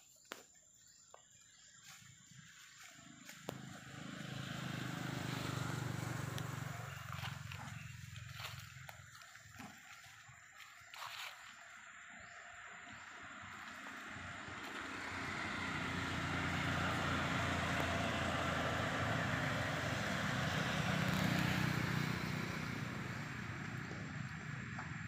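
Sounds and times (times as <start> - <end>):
motor vehicle passing: 2.3 - 10.4, 11.8 - 25.0.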